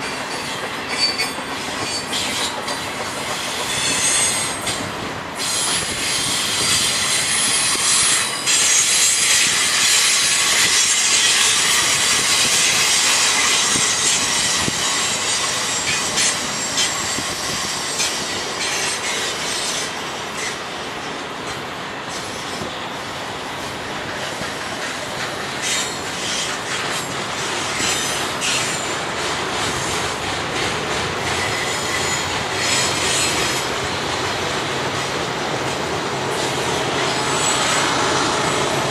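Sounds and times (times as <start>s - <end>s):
wheel squeal against rail: 0.0s - 33.8s, 36.3s - 38.9s
freight train rolling past: 0.0s - 38.9s
rail joint clacks: 0.0s - 38.9s.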